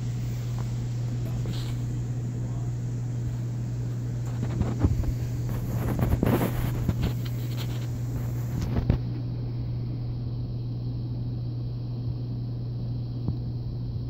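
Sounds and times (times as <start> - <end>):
aquarium pump hum: 0.0 - 14.0.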